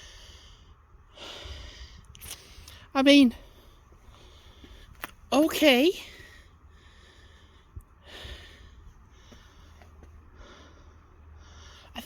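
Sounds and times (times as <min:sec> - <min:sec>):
faint breathing: 0:00.0 - 0:05.0, 0:06.0 - 0:12.0
low steady hum: 0:00.0 - 0:12.0.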